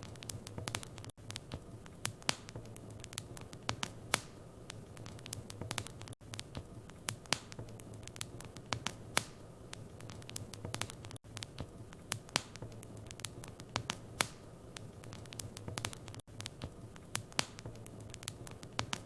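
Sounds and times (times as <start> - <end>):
fire crackling and popping: 0.0 - 19.0
fire hissing: 0.0 - 19.0.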